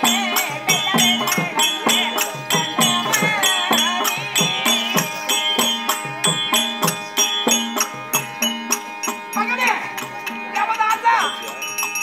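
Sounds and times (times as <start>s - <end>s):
percussion strokes: 0.0s - 12.0s.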